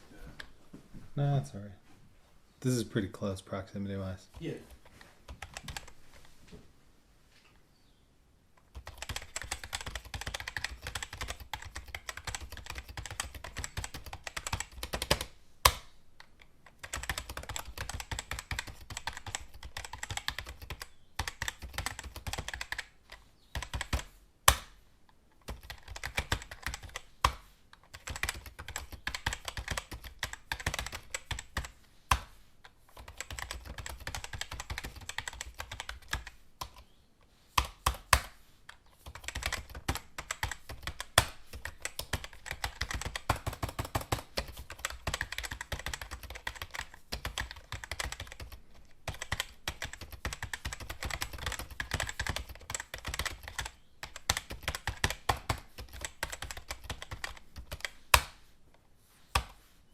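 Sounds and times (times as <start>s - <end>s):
computer keyboard typing: 4.3s - 6.0s, 8.6s - 24.6s, 25.4s - 32.2s, 32.9s - 36.9s, 37.6s - 58.4s.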